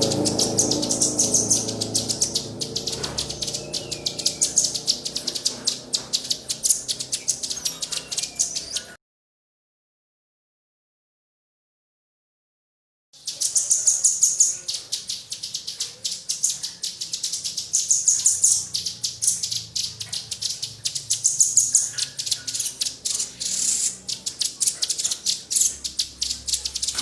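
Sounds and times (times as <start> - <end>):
small songbird chattering: 0.0 - 9.0, 13.2 - 27.0.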